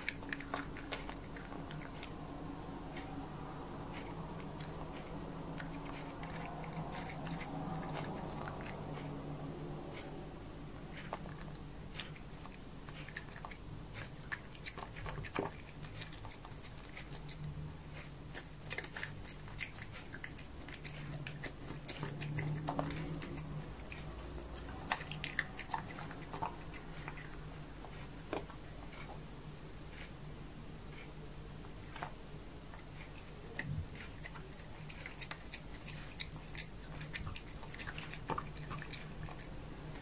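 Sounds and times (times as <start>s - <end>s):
cat chewing wet food: 0.0s - 29.2s, 31.0s - 40.0s.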